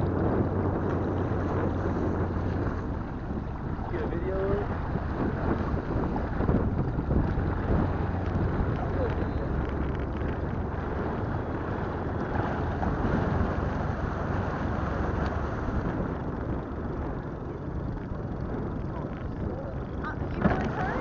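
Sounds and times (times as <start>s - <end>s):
boat rushing through water: 0.0s - 21.0s
wind buffeting microphone: 0.0s - 21.0s.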